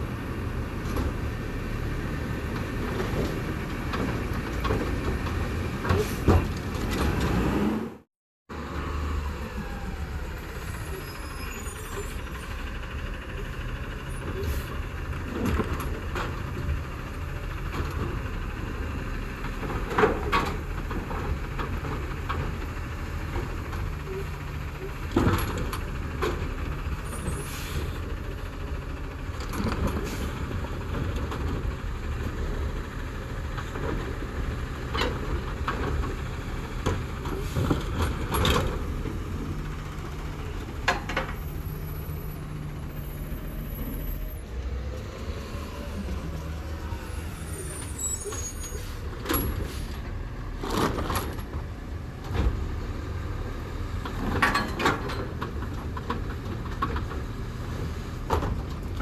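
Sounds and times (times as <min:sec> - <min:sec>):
side-loader arm dumping cart: 0:00.0 - 0:59.0
garbage truck engine running: 0:08.6 - 0:59.0.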